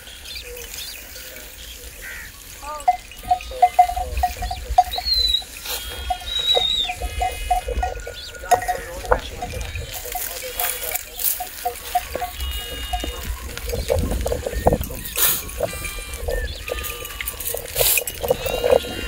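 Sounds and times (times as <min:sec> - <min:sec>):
high whistling calls: 0:00.0 - 0:19.0.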